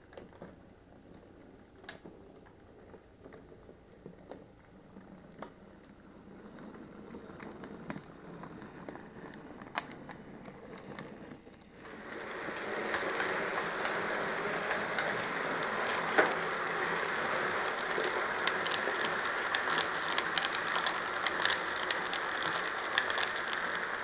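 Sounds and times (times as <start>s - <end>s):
model train rolling on track: 0.0s - 24.0s
wheels clicking over rail joints: 0.0s - 24.0s.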